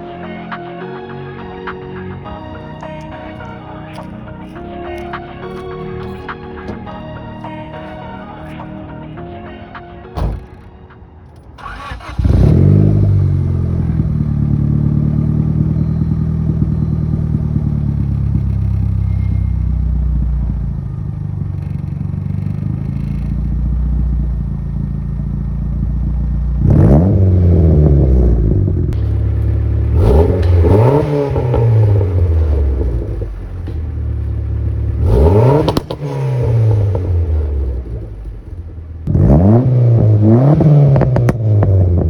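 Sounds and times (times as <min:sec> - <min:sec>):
car engine idling and revving: 0:00.9 - 0:08.8, 0:11.3 - 0:42.0.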